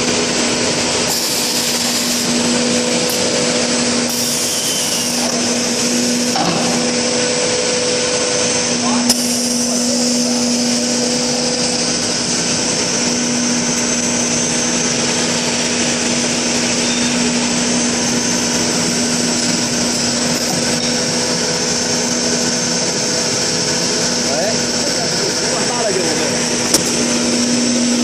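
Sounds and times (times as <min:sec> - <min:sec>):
machine drone with low hum: 0:00.0 - 0:28.0.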